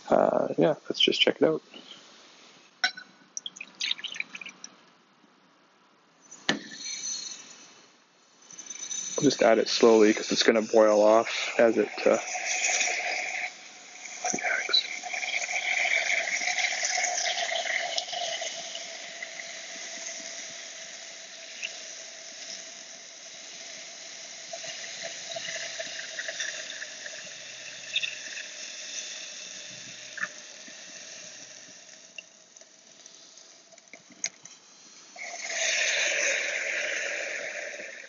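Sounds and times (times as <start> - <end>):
liquid nitrogen boiling hiss: 0.0 - 4.7, 6.1 - 38.0.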